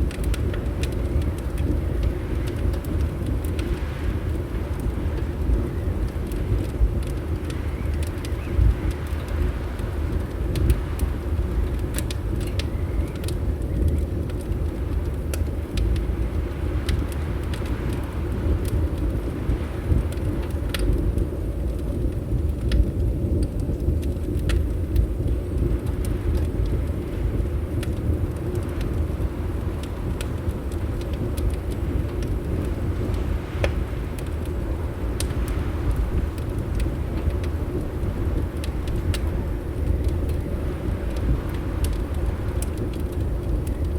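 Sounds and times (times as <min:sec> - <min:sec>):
fireplace crackling and popping: 0:00.0 - 0:43.9
low wind rumble: 0:00.0 - 0:43.9.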